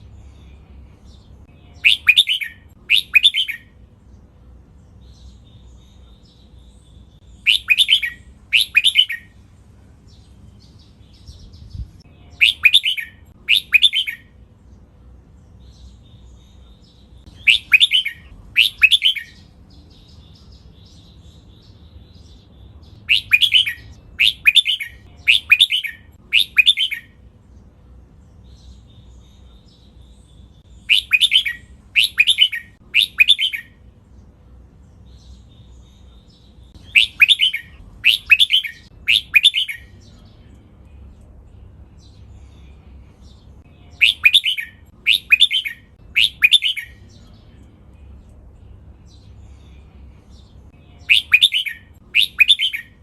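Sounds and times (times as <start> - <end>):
bulbul singing: 0.0 - 53.0.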